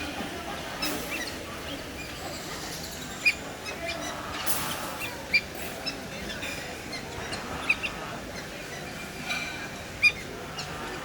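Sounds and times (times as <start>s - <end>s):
birds chirping: 0.6s - 11.0s.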